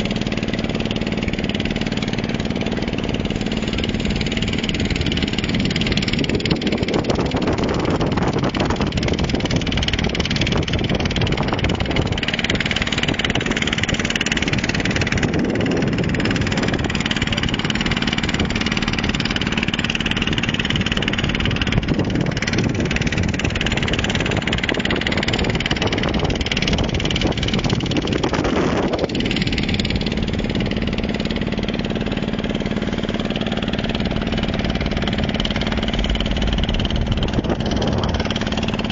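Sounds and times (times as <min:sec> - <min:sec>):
boat engine running: 0:00.0 - 0:38.9
constant rushing noise: 0:00.0 - 0:38.9.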